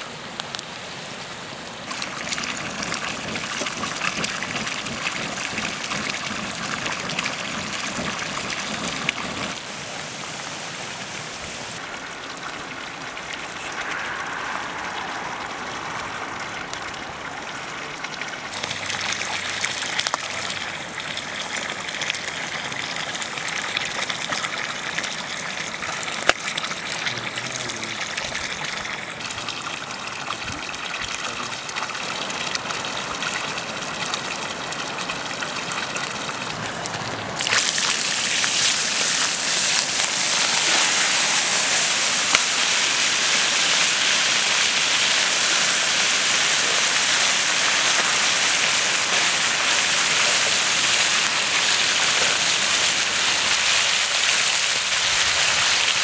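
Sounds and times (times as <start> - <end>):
water gushing from a pipe: 0.0 - 56.0.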